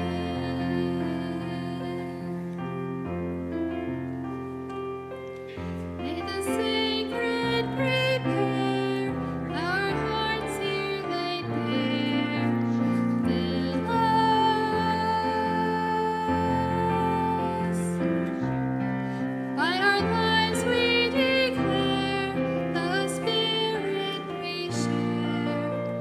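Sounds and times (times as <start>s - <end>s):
hymn singing: 0.0s - 3.0s, 6.0s - 26.0s
keyboard accompaniment: 0.0s - 26.0s.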